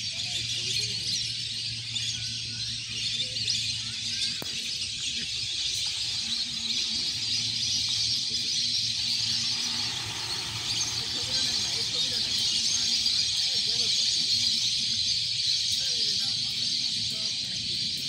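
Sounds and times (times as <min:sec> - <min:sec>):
ducks whistling calls: 0:00.0 - 0:18.0.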